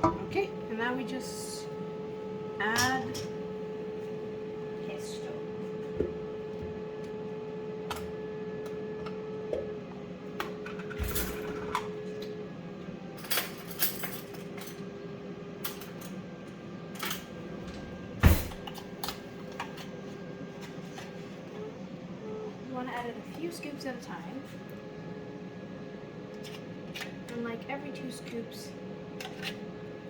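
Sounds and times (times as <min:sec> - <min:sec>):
air fryer hum: 0:00.0 - 0:30.0.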